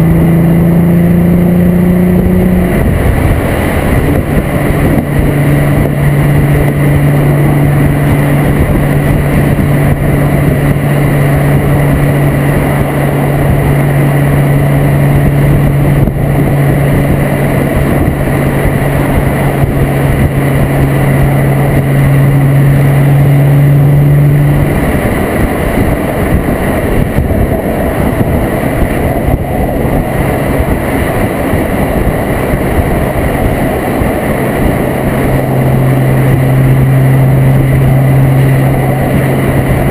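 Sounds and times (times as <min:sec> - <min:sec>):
car engine: 0:00.0 - 0:39.9
low exhaust drone: 0:00.0 - 0:39.9
road noise: 0:00.0 - 0:39.9.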